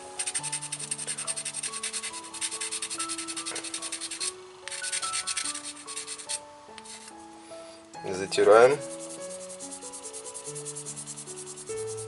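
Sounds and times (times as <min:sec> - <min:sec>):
brush scrubbing coin: 0:00.0 - 0:07.1, 0:08.4 - 0:12.0
soft background music: 0:00.0 - 0:12.0.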